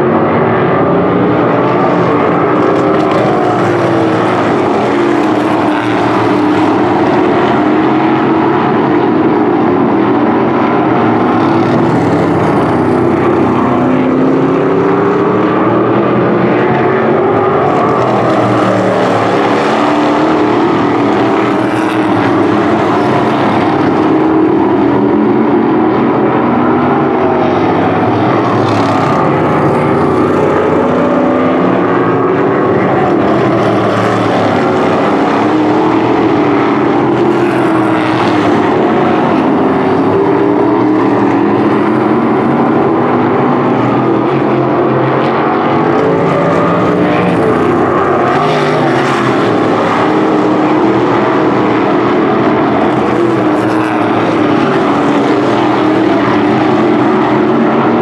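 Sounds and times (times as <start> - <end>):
racing car engines: 0.0 - 58.0.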